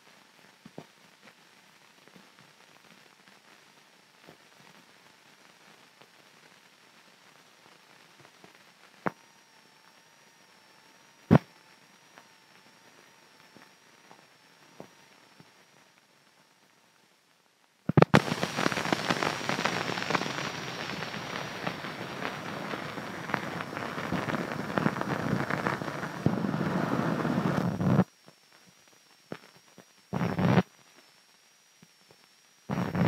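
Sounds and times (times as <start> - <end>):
film soundtrack crackling and popping: 0.0 - 33.0.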